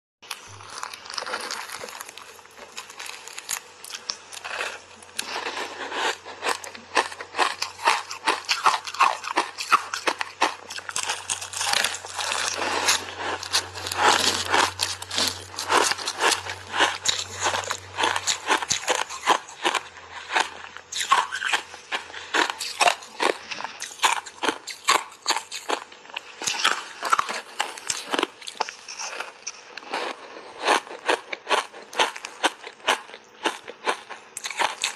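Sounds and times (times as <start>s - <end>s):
crunching ice bars: 0.3s - 34.9s.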